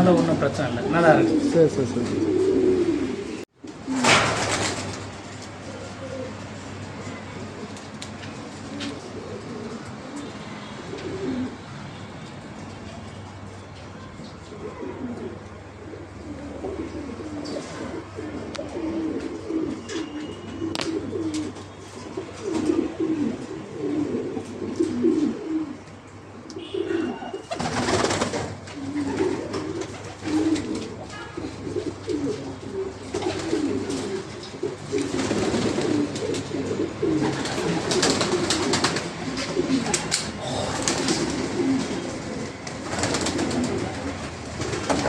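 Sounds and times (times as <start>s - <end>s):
pigeons cooing: 0.0s - 12.0s, 14.0s - 45.0s.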